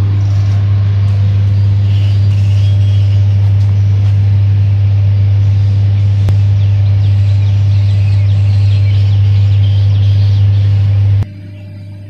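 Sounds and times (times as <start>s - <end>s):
loud steady low hum: 0.0s - 12.0s
fledgling bird begging chirps: 0.1s - 4.2s, 5.4s - 12.0s.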